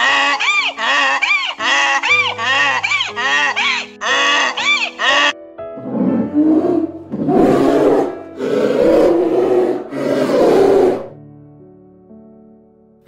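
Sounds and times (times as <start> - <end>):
polar bear growling: 0.0 - 11.2
soft background music: 0.0 - 13.0.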